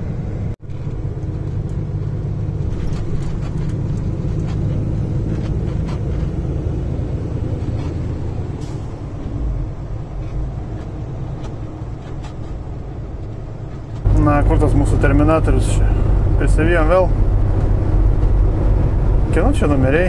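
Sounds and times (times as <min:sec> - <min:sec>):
road noise inside cab: 0:00.0 - 0:20.0
truck diesel engine drone: 0:00.0 - 0:20.0.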